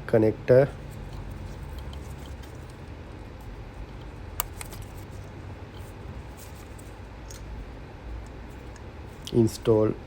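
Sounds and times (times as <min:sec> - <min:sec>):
low background rumble: 0:00.0 - 0:10.0.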